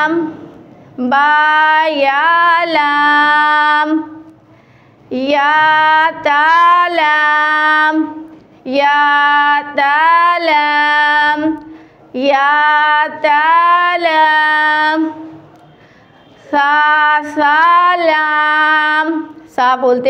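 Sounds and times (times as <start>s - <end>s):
high voice chanting: 0.0s - 4.4s, 5.1s - 20.0s.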